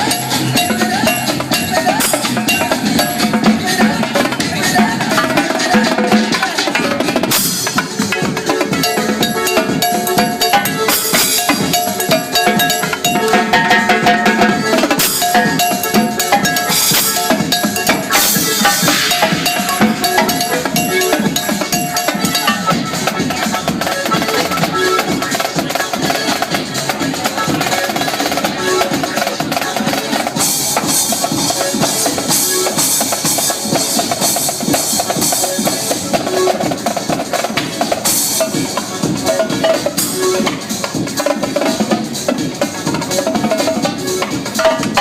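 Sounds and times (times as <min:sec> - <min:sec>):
drum kit playing: 0:00.0 - 0:45.0
electronic dance track: 0:00.0 - 0:45.0.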